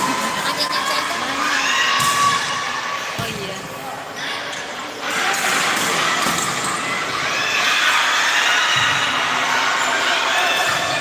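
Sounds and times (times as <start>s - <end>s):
crowd shouting and cheering: 0.0s - 11.0s.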